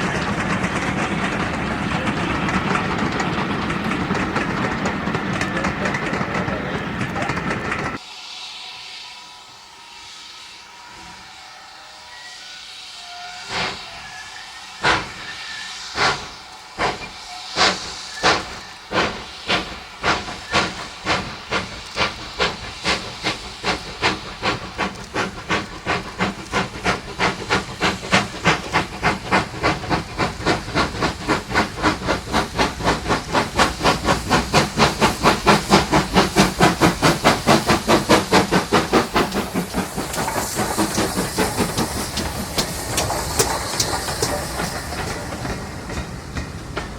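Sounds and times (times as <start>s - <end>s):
steam hissing: 0.0s - 46.9s
steam locomotive chuffing: 0.0s - 46.9s.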